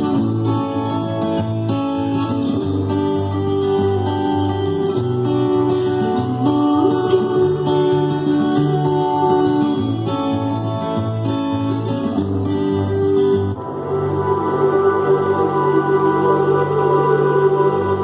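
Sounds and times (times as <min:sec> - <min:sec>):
plucked strings over heavy bass: 0:00.0 - 0:16.7.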